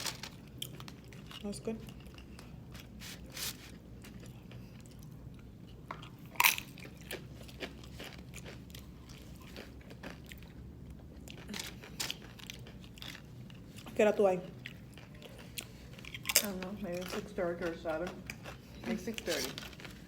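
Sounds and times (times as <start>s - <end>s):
person chewing food with crunches: 0.0s - 20.0s.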